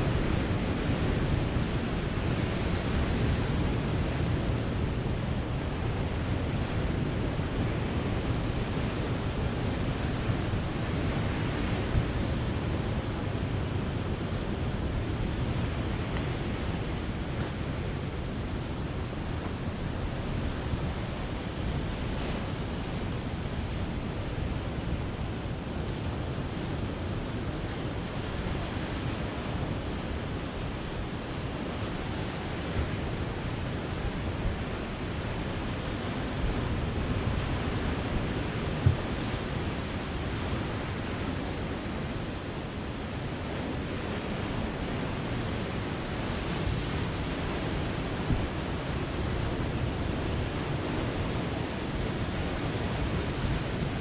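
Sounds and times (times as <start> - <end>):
ocean surf washing ashore: 0.0 - 54.0
wind on microphone: 0.0 - 54.0.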